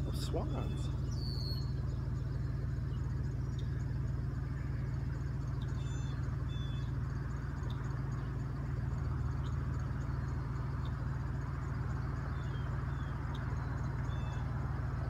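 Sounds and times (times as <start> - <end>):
low mechanical hum: 0.0 - 15.0
small birds chirping: 0.0 - 15.0.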